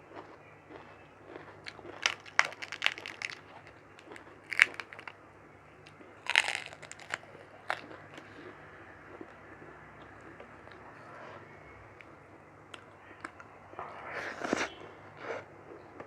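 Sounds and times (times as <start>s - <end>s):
crunching and biting while eating: 0.0s - 5.2s, 5.8s - 16.0s.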